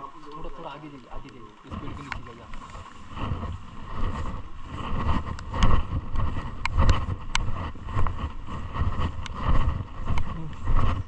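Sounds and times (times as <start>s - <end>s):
wind rumbling on microphone: 0.0s - 11.0s
rain jacket rustling: 1.5s - 11.0s.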